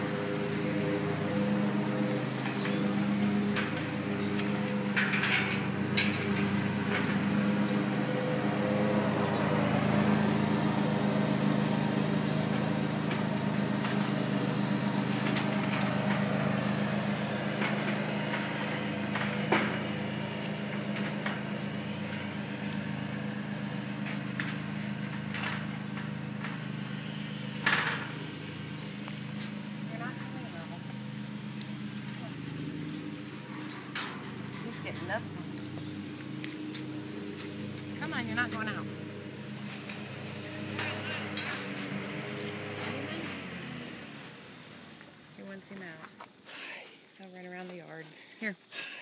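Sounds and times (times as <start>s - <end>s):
motor humming: 0.0s - 45.8s.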